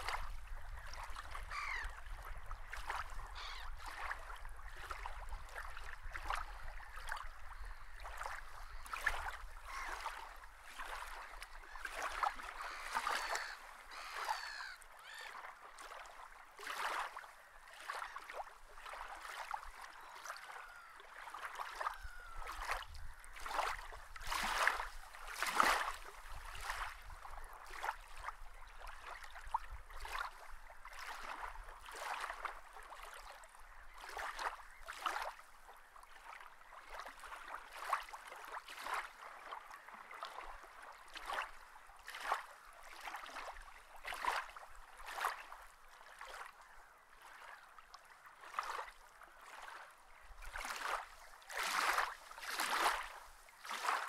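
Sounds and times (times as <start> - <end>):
water lapping and splashing: 0.0 - 54.0.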